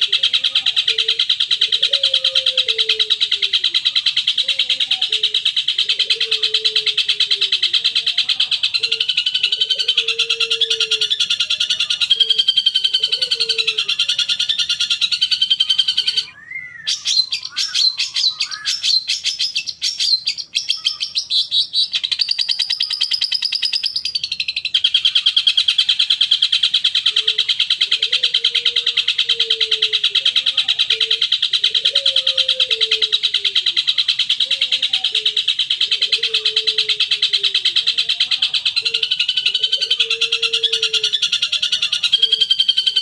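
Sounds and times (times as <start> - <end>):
lower wavering bird call: 0.0 - 43.0.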